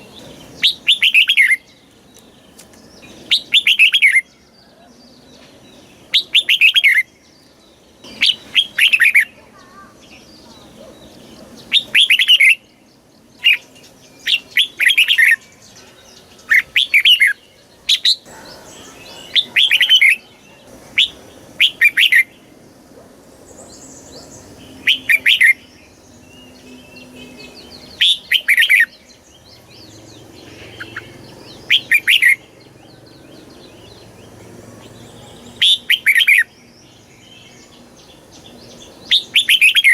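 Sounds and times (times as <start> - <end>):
bird singing whistled notes: 0.0 - 22.5, 23.5 - 39.9.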